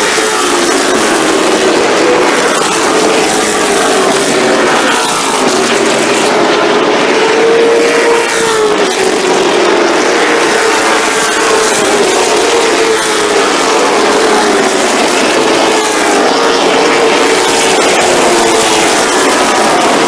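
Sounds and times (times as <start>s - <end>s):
race car engines at full throttle: 0.0s - 20.0s.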